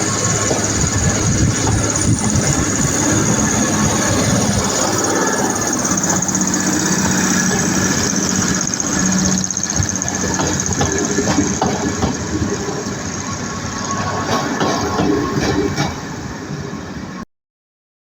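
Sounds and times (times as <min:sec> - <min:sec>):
diesel train engine idling: 0:00.0 - 0:17.1.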